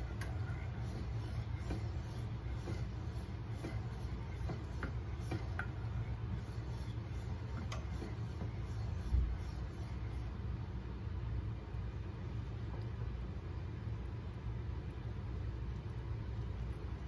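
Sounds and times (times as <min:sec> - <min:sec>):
liquid bubbling in a saucepan: 0:00.0 - 0:17.0
steady low hum: 0:00.0 - 0:17.0.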